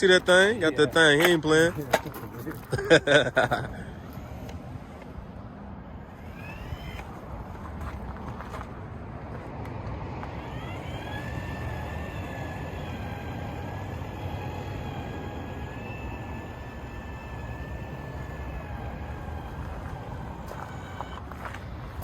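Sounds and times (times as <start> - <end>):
electric caulking gun motor whine: 2.6 - 8.0, 9.6 - 22.0.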